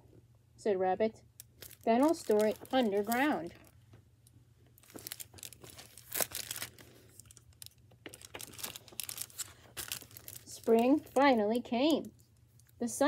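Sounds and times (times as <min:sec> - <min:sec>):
plastic book cover crinkling: 0:01.4 - 0:04.0, 0:04.7 - 0:12.8.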